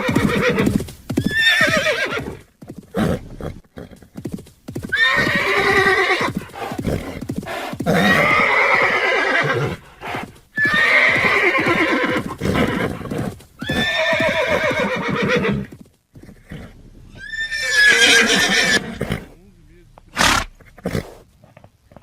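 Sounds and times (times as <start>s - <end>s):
horse neighing: 0.0s - 4.0s, 4.9s - 19.4s, 20.1s - 21.2s.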